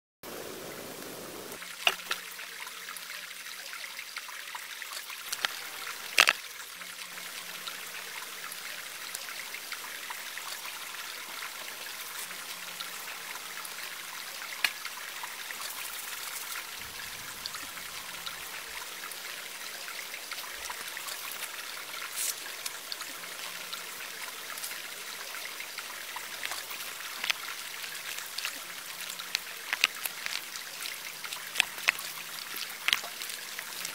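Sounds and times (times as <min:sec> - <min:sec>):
water trickling: 0:00.3 - 0:33.9.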